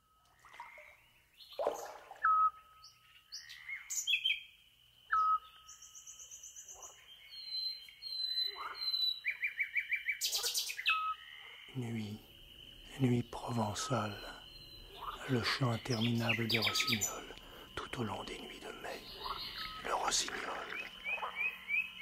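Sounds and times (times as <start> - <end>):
nightingale singing: 0.0 - 22.0.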